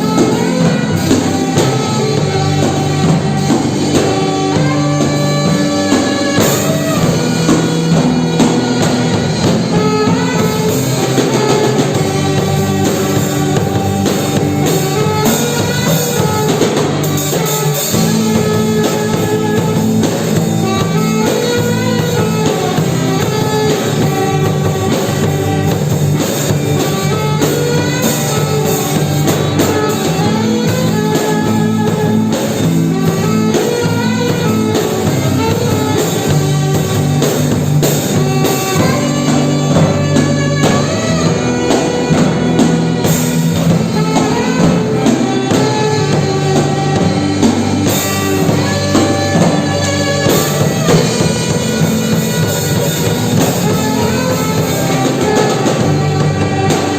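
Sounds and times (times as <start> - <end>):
drum kit steady beat: 0.0 - 56.9
guitar: 0.0 - 56.9.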